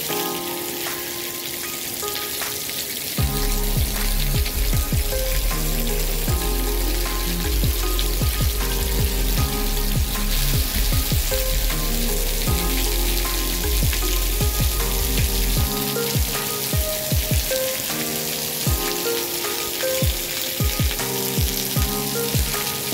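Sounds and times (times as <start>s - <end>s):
heavy rain pouring: 0.0s - 22.9s
soft melodic music: 0.0s - 22.9s.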